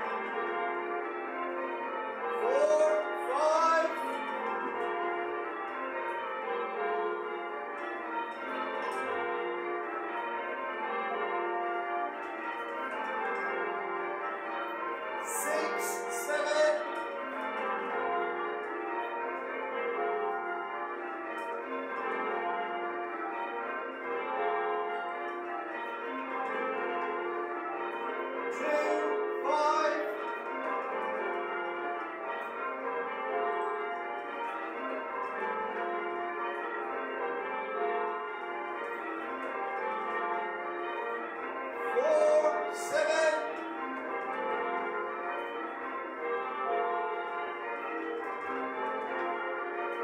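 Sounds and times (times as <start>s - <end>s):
church bells ringing: 0.0s - 50.0s.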